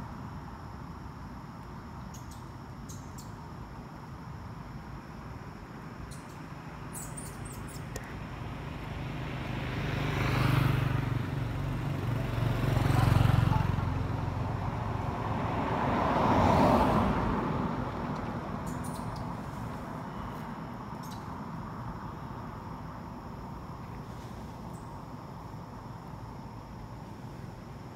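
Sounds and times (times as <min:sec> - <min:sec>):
vehicles passing: 0:00.0 - 0:27.9.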